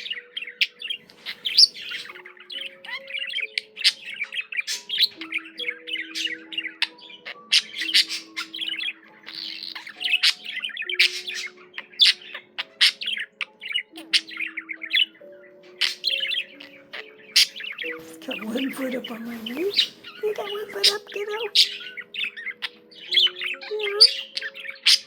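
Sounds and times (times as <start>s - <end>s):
budgerigar warbling: 0.0s - 25.0s.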